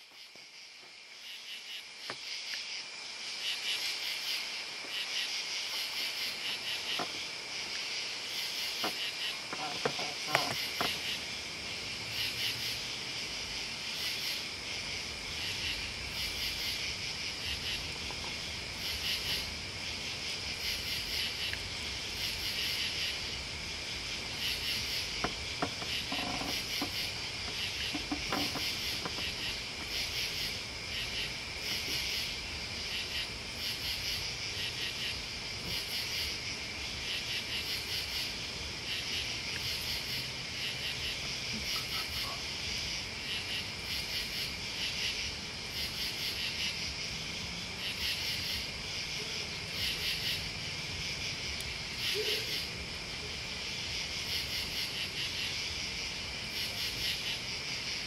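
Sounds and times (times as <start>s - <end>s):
crickets chirping in bursts: 0.0s - 58.0s
low insect trill: 0.0s - 58.0s.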